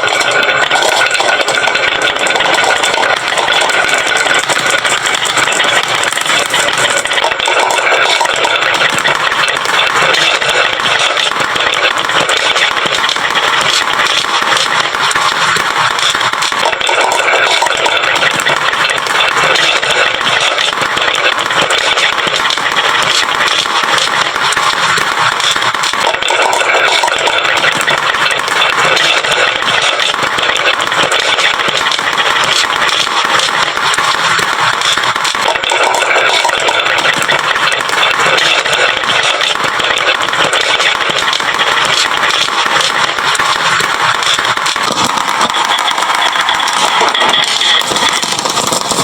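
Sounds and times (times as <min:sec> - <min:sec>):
marbles rolling down wooden run: 0:00.0 - 0:49.0.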